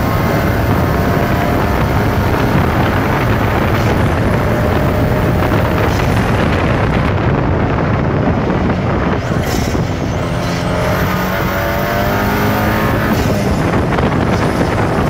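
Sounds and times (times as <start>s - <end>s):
car engine running hard: 0.0s - 15.0s
wind and road noise: 0.0s - 15.0s.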